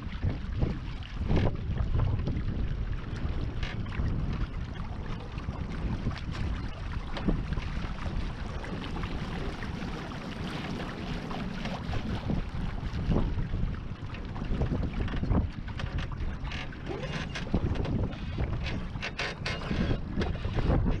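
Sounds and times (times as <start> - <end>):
water splashing against hull: 0.0 - 21.0
wind buffeting microphone: 0.0 - 21.0.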